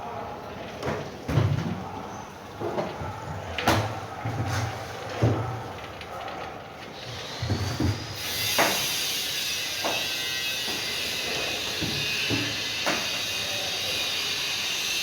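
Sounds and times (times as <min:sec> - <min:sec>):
steady hissing mechanical noise: 0:00.0 - 0:15.0.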